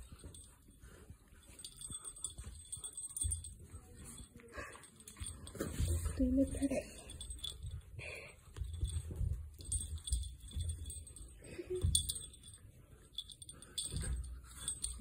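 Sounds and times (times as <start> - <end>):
collar bell jingling: 0.0 - 15.0.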